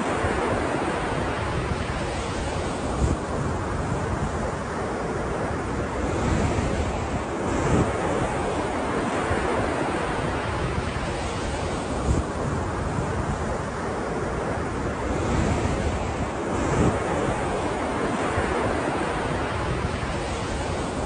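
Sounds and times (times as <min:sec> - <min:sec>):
ocean waves surf: 0:00.0 - 0:21.0.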